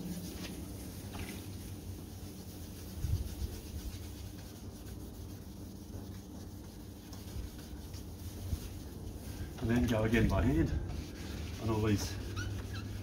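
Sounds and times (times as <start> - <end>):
sandpaper rubbing on plastic: 0.0 - 13.0.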